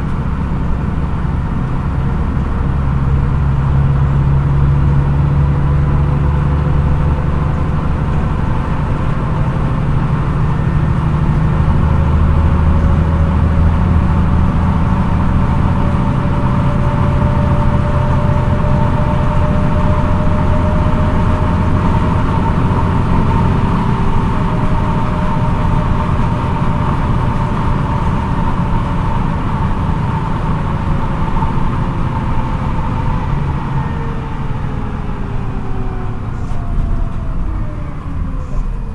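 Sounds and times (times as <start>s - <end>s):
bus engine hum: 0.0s - 38.9s
drivetrain whine: 0.0s - 38.9s.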